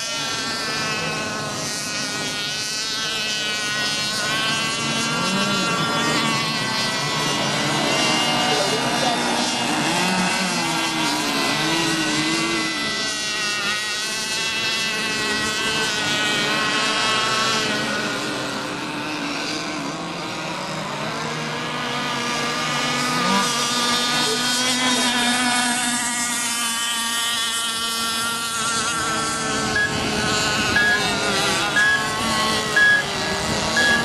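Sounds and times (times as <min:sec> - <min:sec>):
model boat engines whining: 0:00.0 - 0:34.0.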